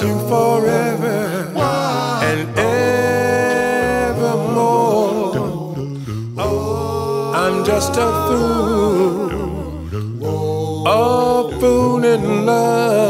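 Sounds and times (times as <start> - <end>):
male vocal group singing harmony: 0.0 - 13.0.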